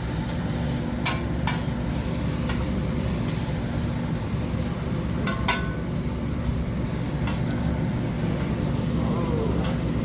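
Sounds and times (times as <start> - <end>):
griddle sizzling: 0.0 - 10.0.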